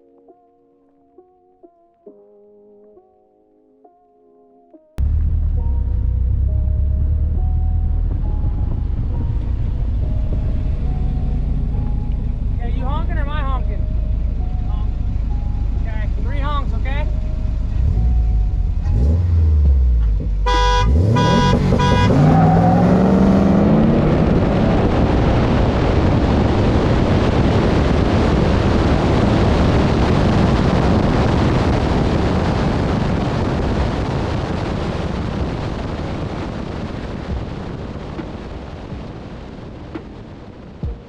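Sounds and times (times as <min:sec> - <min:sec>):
car engine rumble and revving: 0:05.0 - 0:41.0.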